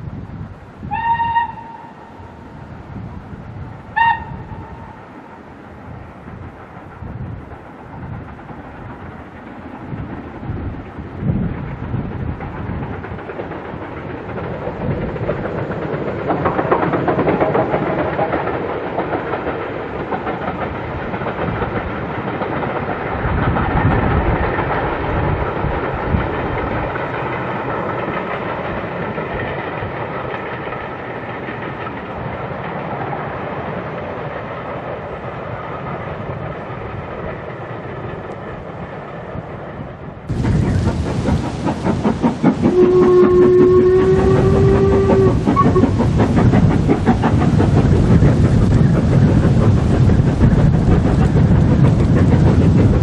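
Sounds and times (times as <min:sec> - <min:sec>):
steam train running: 0:00.0 - 0:53.0.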